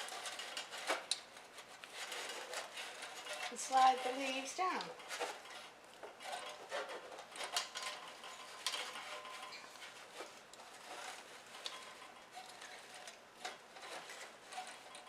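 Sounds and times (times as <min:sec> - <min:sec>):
artificial leaves rustling: 0:00.0 - 0:15.0.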